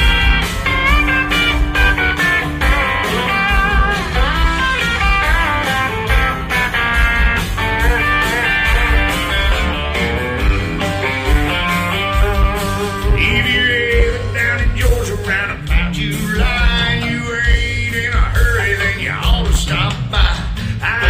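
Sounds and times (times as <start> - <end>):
electric guitar bending notes: 0.0 - 19.7
live country band playing: 0.0 - 21.0.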